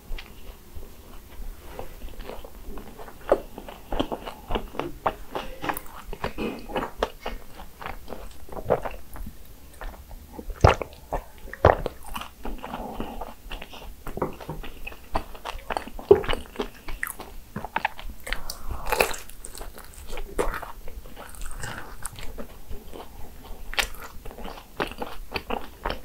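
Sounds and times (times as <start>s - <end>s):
pastry crunching while chewing: 0.0s - 26.0s.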